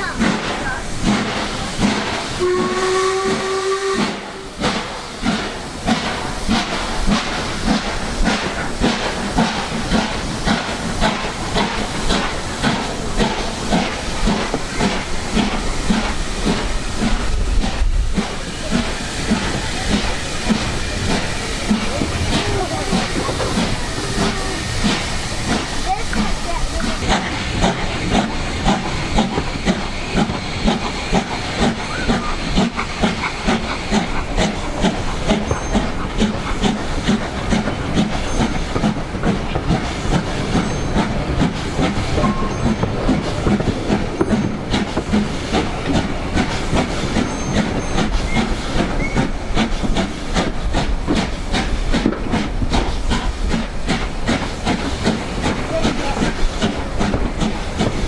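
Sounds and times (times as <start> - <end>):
steam hissing: 0.0 - 58.0
steam locomotive exhaust beating: 0.0 - 58.0.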